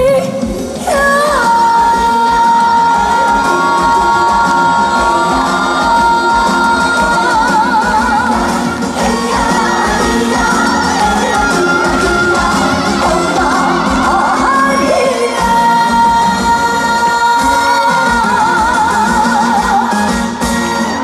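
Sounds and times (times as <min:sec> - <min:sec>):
amplified band backing track: 0:00.0 - 0:21.0
woman singing with vibrato: 0:00.0 - 0:21.0.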